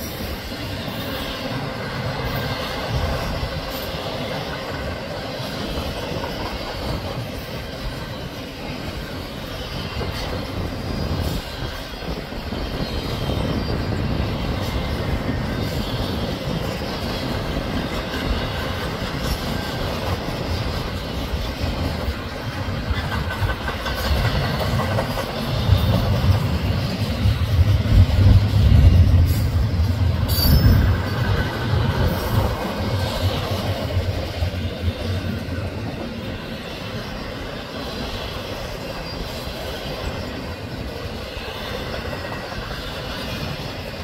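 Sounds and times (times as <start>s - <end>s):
wheels clicking over rail joints: 0.0s - 36.4s
train wheels rumbling on rails: 0.0s - 44.0s.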